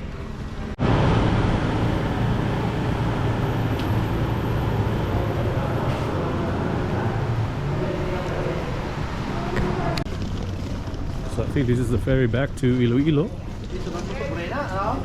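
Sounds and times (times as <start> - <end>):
engine droning: 0.3 - 13.0.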